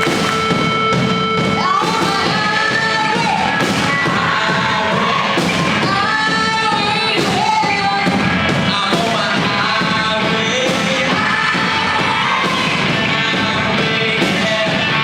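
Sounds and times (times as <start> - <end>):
live rock band with singer: 0.0 - 15.0.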